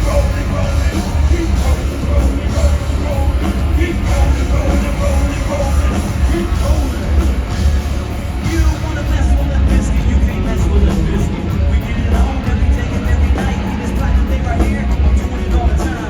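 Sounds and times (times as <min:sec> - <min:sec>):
live metal band playing: 0:00.0 - 0:16.0
vocal over heavy music: 0:00.0 - 0:16.0.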